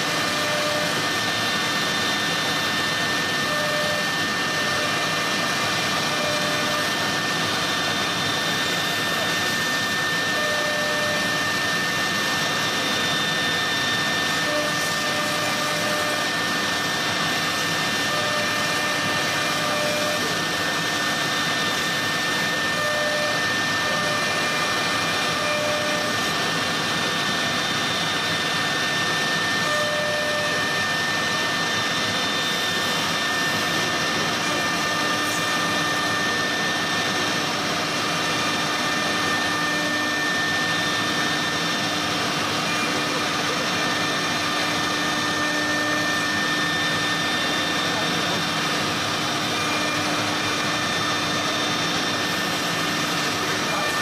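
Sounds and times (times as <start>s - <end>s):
drill spindle whining into wood: 0.0s - 54.0s.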